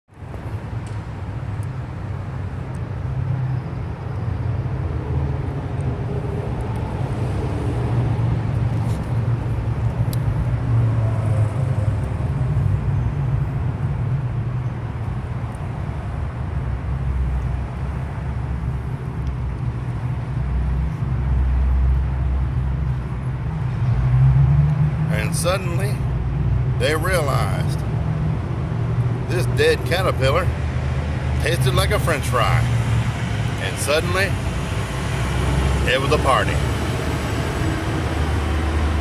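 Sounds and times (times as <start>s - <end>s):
city road traffic rumble: 0.1s - 39.0s.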